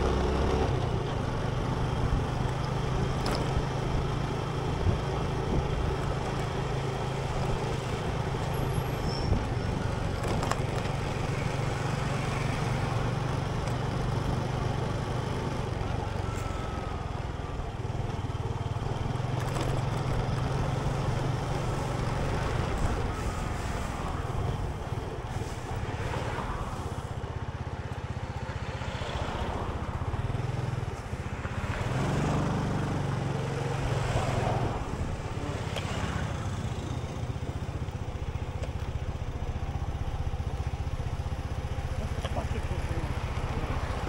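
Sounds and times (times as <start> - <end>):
passing traffic: 0.0 - 44.0
road noise: 0.0 - 44.0
vehicle engine running: 0.0 - 44.0.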